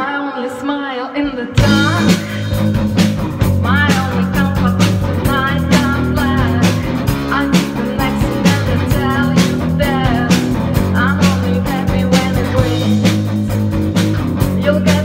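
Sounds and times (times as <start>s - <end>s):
woman singing into a microphone: 0.0s - 2.6s, 3.6s - 13.5s, 14.4s - 15.0s
rock music: 1.3s - 15.0s
steady drum beat: 1.6s - 15.0s.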